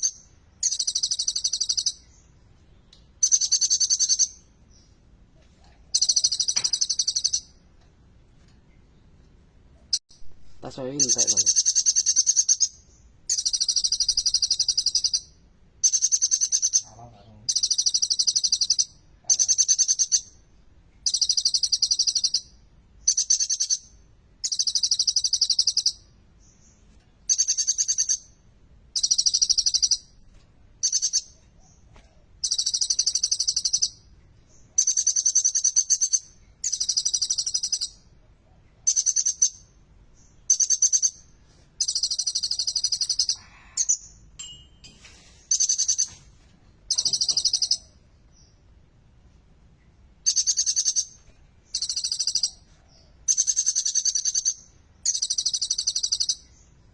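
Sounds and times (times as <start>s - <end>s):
bird trilling song: 0.0s - 5.0s, 5.9s - 7.6s, 9.8s - 28.4s, 29.0s - 38.2s, 38.8s - 46.3s, 46.9s - 48.7s, 50.2s - 56.9s.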